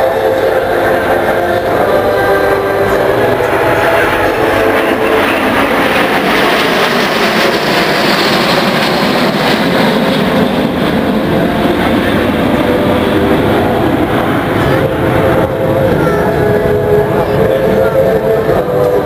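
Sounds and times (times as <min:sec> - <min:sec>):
jet engines roaring overhead: 0:00.0 - 0:19.0.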